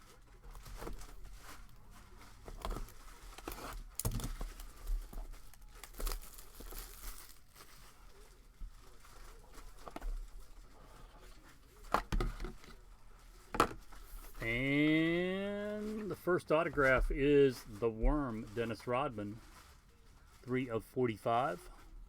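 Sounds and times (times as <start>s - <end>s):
wrappers crinkling and tearing: 0.0s - 22.0s.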